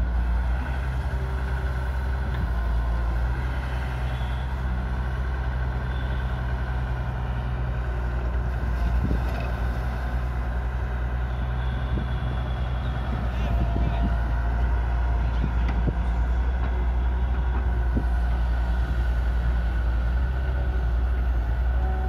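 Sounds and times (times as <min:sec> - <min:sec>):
heavy diesel engines droning: 0:00.0 - 0:22.0.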